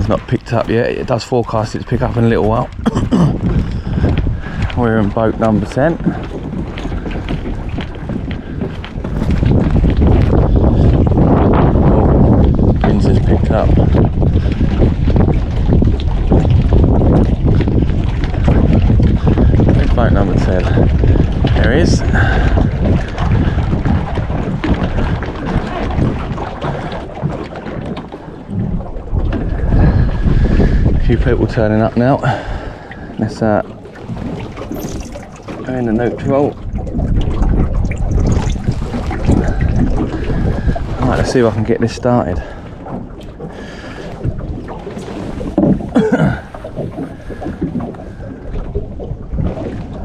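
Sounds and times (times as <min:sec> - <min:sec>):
outboard motor cranking: 0:00.0 - 0:50.0
wind buffeting microphone: 0:00.0 - 0:50.0.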